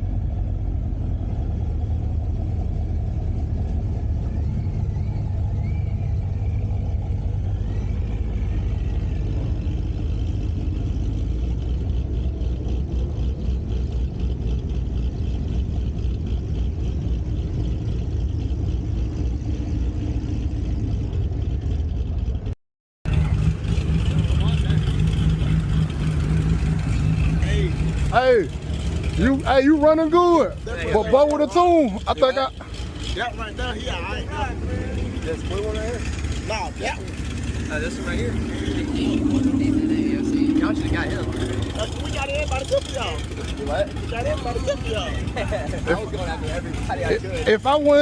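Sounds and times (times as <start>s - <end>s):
car engine rumbling: 0.0s - 48.0s
road noise: 0.0s - 48.0s.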